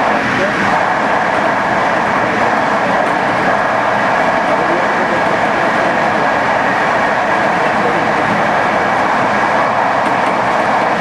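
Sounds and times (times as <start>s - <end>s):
train wheels on rail: 0.0s - 11.0s.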